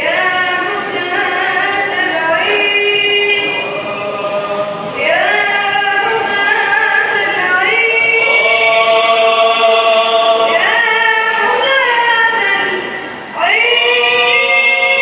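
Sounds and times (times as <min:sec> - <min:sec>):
person singing devotional song: 0:00.0 - 0:15.0.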